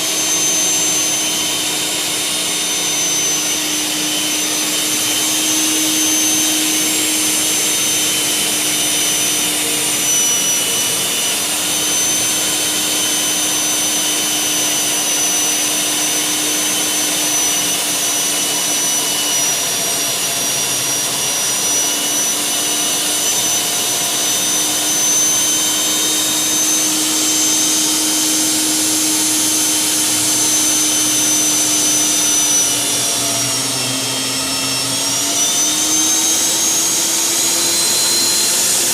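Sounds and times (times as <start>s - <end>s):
core drill whining through concrete: 0.0s - 38.9s.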